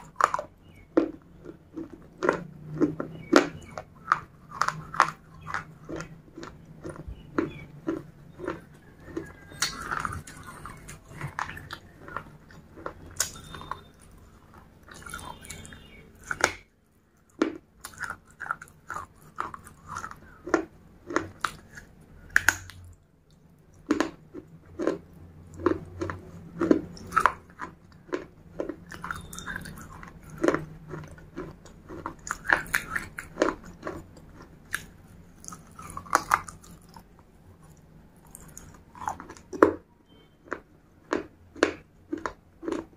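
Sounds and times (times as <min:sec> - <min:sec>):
crunching clay pot pieces: 0:00.0 - 0:22.9, 0:23.8 - 0:42.9.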